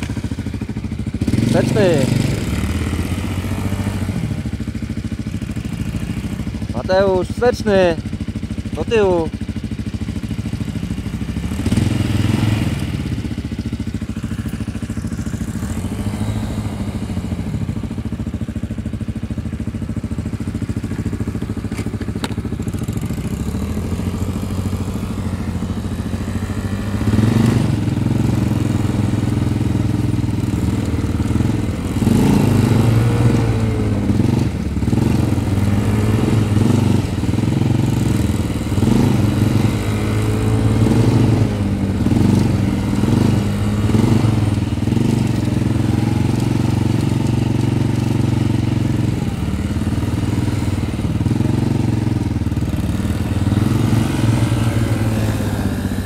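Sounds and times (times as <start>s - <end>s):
quad bike engines revving: 0.0s - 56.0s.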